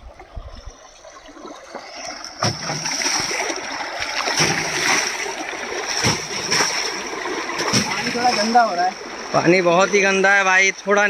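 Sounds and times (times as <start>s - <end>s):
water splashing against wheel: 1.1s - 10.8s.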